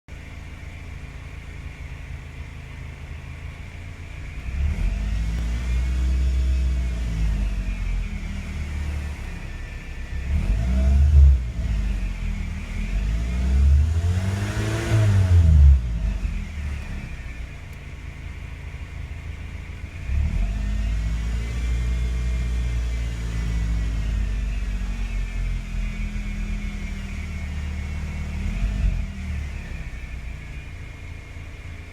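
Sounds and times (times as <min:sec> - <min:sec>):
car engine idling and revving: 0:00.1 - 0:31.9.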